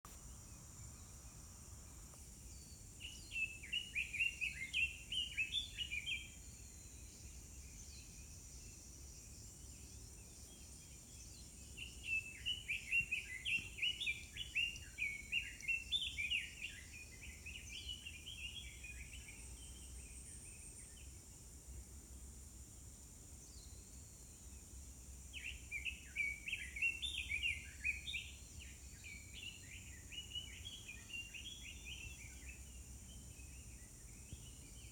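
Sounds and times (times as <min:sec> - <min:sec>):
songbird chirping: 0:00.1 - 0:34.9
steady high hiss: 0:00.1 - 0:34.9.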